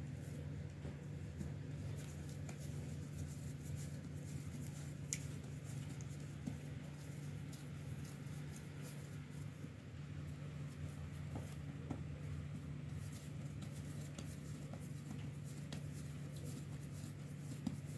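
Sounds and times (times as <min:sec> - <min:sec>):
hands patting bread dough: 0:00.0 - 0:17.9
steady low hum: 0:00.0 - 0:17.9.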